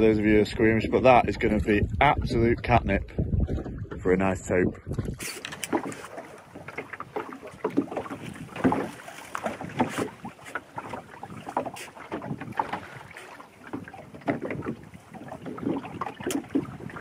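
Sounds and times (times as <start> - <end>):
waves lapping against boat hull: 0.0 - 17.0.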